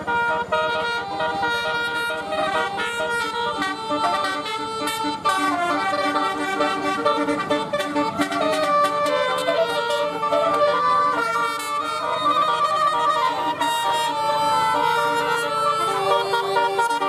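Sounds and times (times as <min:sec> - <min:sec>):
musical air horn playing tune: 0:00.0 - 0:17.0.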